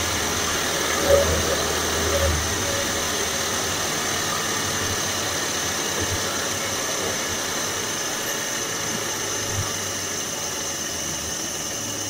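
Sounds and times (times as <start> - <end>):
car engine running: 0.0 - 12.0
supercharger whine: 0.0 - 12.0.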